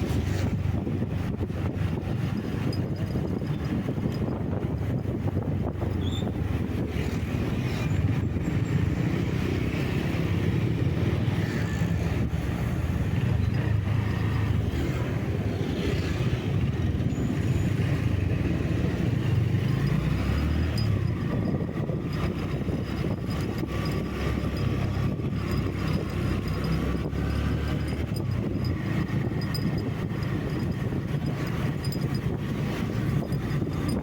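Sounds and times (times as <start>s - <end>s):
vehicle engine rumble and road noise: 0.0s - 34.0s.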